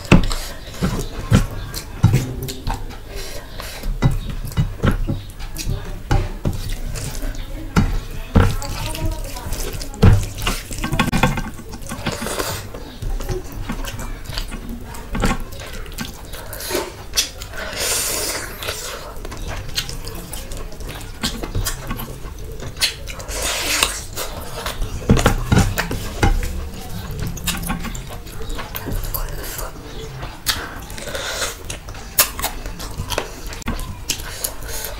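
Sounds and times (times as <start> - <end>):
wet squishing of food: 0.0 - 34.9.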